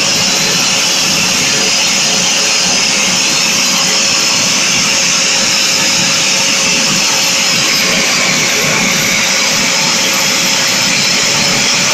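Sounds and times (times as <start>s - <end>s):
jet engine running: 0.0s - 11.9s.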